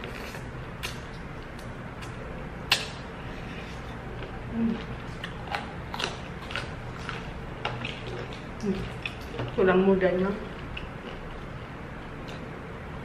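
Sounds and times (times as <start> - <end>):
person chewing bones: 0.0 - 9.6, 10.4 - 11.6.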